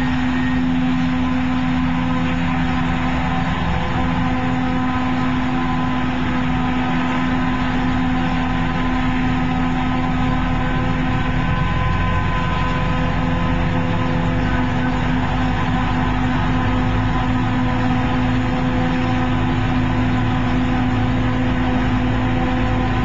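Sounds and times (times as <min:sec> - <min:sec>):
tractor engine: 0:00.0 - 0:23.0.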